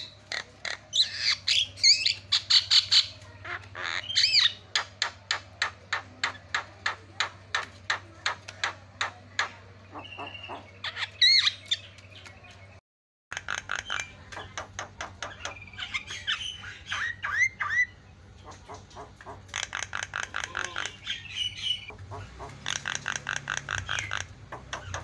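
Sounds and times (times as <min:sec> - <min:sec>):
myna bird calling: 0:00.0 - 0:25.0.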